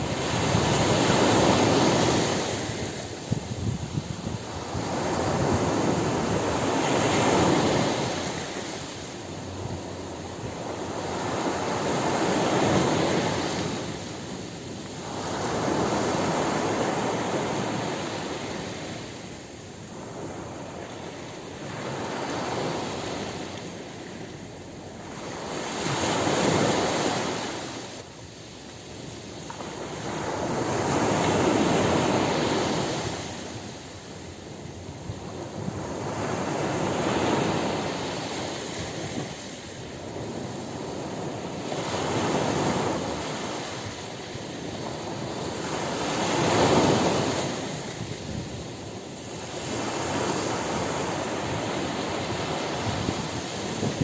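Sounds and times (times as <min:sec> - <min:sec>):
steady surf hiss: 0:00.0 - 0:54.0
waves breaking on a beach: 0:00.0 - 0:54.0.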